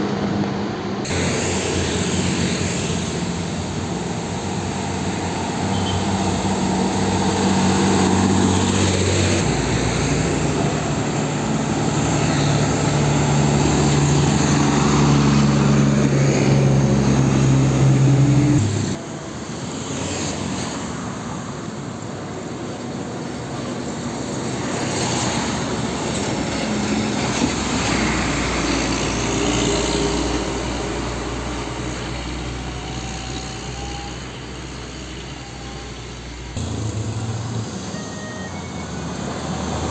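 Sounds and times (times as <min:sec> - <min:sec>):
diesel trucks driving past: 0:00.0 - 0:21.9, 0:23.0 - 0:39.9.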